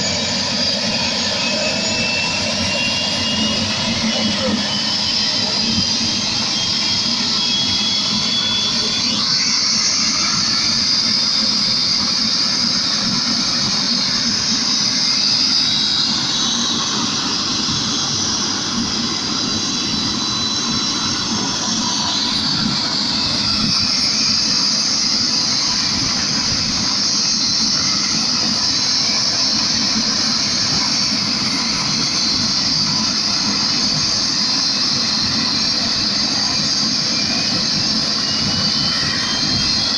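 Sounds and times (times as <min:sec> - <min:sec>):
helicopter turbine engine whine: 0:00.0 - 0:39.9.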